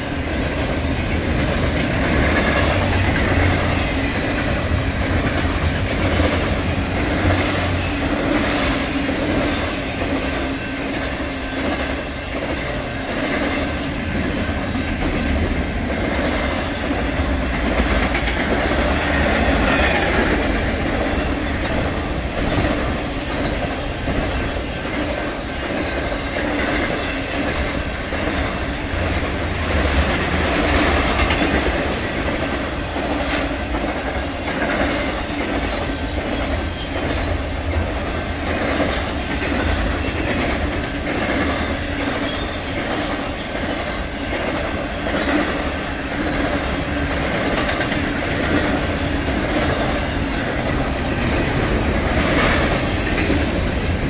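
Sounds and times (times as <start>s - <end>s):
freight cars rolling on rails: 0.0s - 54.0s
wheels clattering over rail joints: 0.0s - 54.0s.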